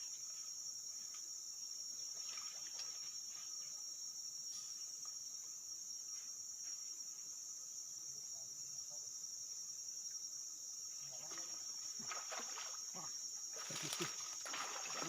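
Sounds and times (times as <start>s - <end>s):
high-pitched insect chorus drone: 0.0s - 15.0s
lower insect tone: 0.0s - 15.0s.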